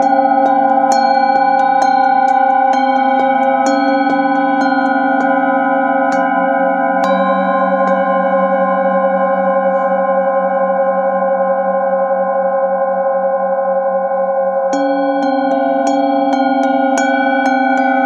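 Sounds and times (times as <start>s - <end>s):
singing bowl struck with mallet: 0.0s - 11.4s, 14.1s - 18.0s
singing bowls ringing hum: 0.0s - 18.0s.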